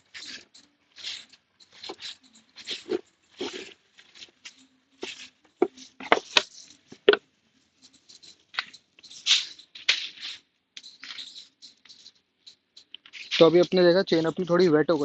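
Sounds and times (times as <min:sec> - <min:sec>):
hissing and scraping on chain: 0:00.0 - 0:15.0.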